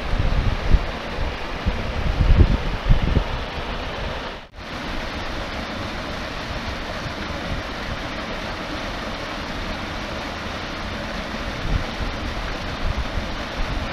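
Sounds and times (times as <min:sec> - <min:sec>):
waterfall pouring over rocks: 0:00.0 - 0:13.9.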